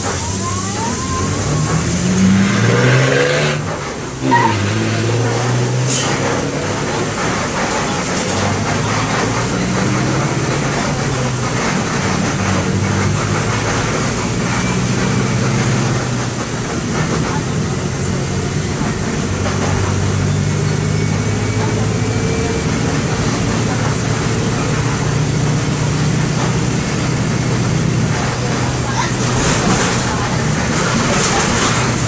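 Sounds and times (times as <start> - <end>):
bus diesel engine accelerating: 0.0 - 32.0.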